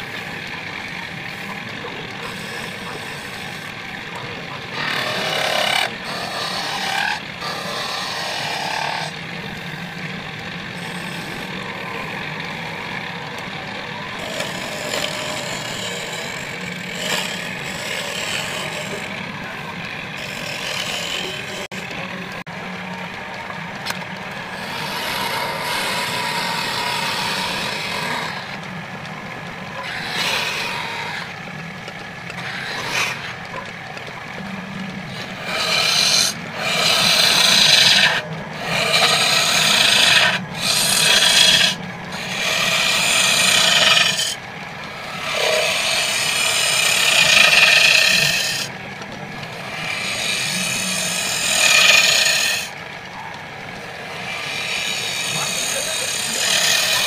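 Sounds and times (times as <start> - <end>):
chisel scraping spinning wood: 0.0 - 52.8, 53.7 - 57.0
lathe humming: 0.0 - 57.0.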